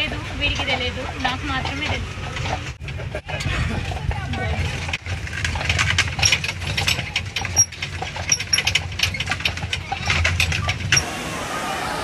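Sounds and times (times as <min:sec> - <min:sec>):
horse hooves clopping: 0:00.0 - 0:11.0
carriage low rumble: 0:00.0 - 0:12.0.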